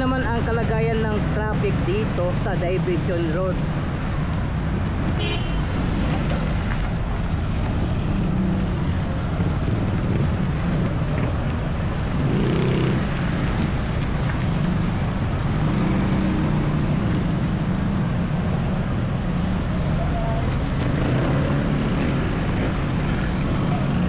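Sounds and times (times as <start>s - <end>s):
heavy road traffic passing: 0.0s - 24.0s.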